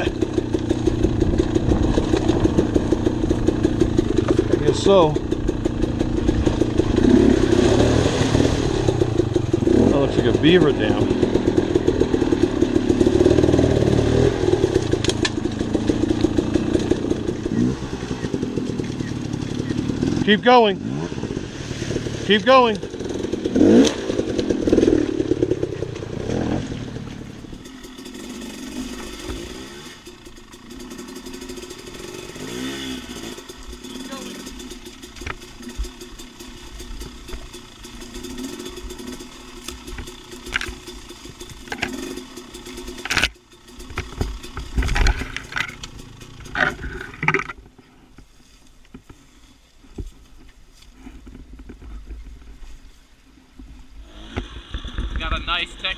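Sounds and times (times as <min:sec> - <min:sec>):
dirt bike engine revving: 0:00.0 - 0:47.6, 0:54.0 - 0:55.9.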